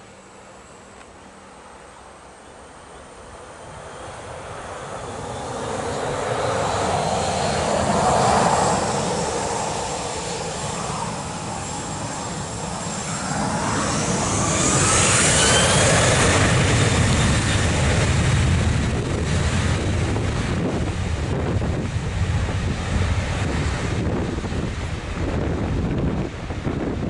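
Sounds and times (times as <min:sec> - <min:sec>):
high engine whine: 0:00.0 - 0:27.0
jet engines on runway: 0:00.0 - 0:27.0.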